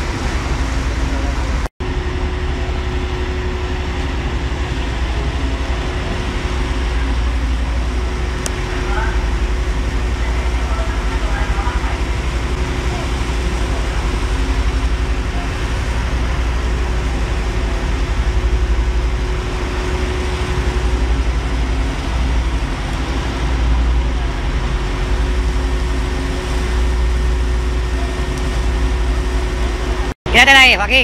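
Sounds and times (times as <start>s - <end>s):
ship engine low rumble: 0.0s - 31.0s
steady engine hum: 0.0s - 31.0s
water wash rushing: 0.0s - 31.0s.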